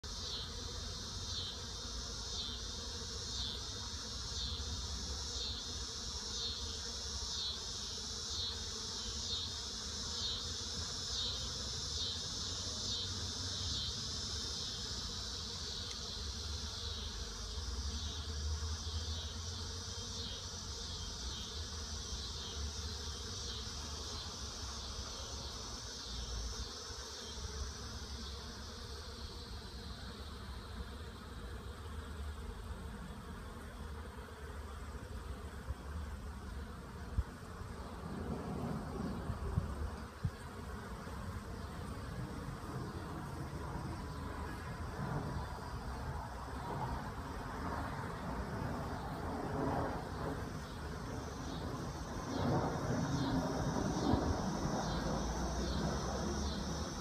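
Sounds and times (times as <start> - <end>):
cicadas chorus: 0.0 - 57.0
honeybees buzzing: 0.0 - 57.0.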